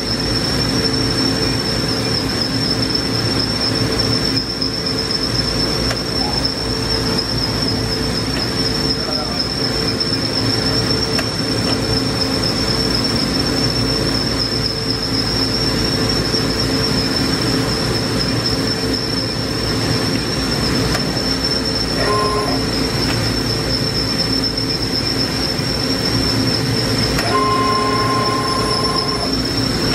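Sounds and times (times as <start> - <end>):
low machinery hum: 0.0 - 29.9
machine high-pitched whine: 0.0 - 29.9.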